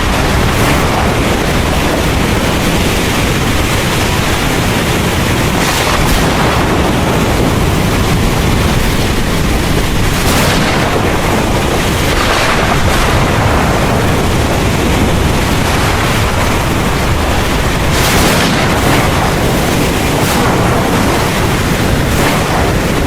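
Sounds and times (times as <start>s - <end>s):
heavy rain pouring: 0.0s - 23.0s
low rumble of thunder: 0.0s - 23.0s.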